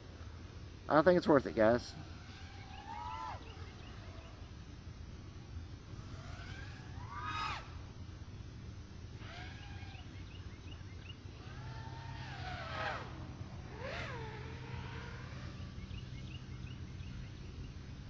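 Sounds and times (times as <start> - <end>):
longer wavering bird calls: 0.0 - 18.0
steady low hum: 0.0 - 18.0.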